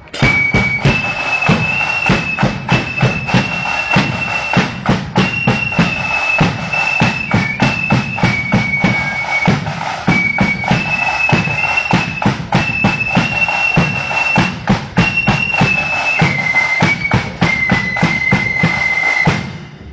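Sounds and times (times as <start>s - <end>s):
flute melody: 0.0s - 19.9s
regular drumming: 0.0s - 19.9s.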